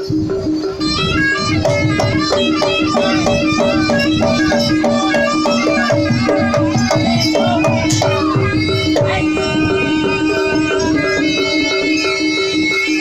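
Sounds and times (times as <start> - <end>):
drums: 0.0 - 13.0
reedy shawm melody: 0.0 - 13.0
repeated pitched percussion notes: 0.0 - 13.0.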